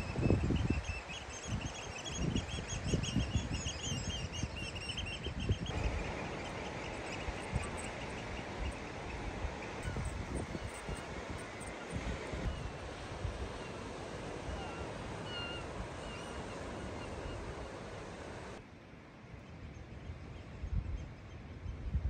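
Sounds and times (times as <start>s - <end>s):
wind rumbling on microphone: 0.0s - 18.6s, 20.0s - 22.0s.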